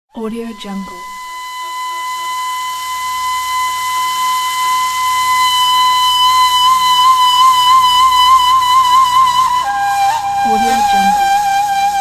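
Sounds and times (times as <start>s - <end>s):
held flute-like note: 0.1s - 12.0s.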